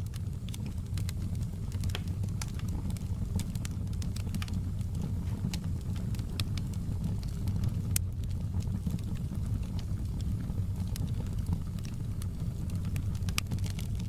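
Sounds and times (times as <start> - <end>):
fire crackling and popping: 0.0 - 14.0
low rumble of fire: 0.0 - 14.0.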